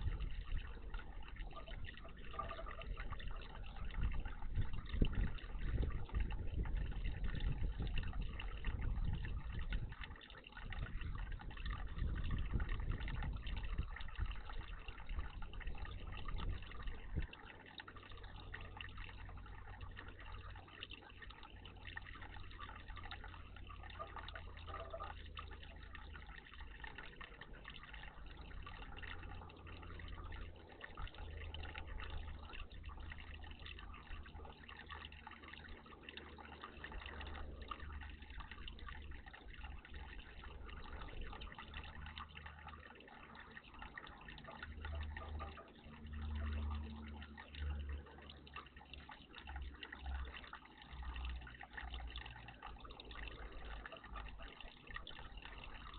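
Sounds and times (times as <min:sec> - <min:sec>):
water trickling and splashing: 0:00.0 - 0:55.9.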